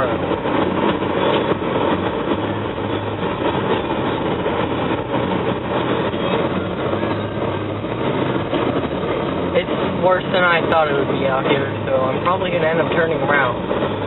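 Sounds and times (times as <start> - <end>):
car engine hum: 0.0 - 14.0
tyre and road rumble: 0.0 - 14.0.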